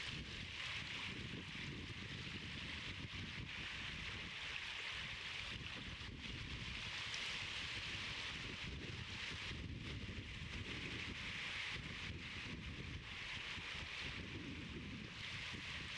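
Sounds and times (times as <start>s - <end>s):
wind rumbling on microphone: 0.0s - 15.9s.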